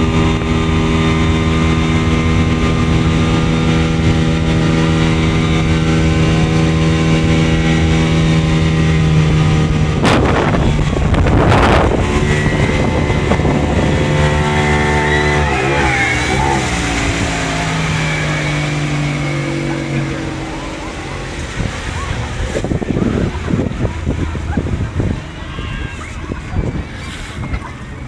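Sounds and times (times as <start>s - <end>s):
jet ski engine running: 0.0s - 28.0s
rush of spray: 0.5s - 28.0s.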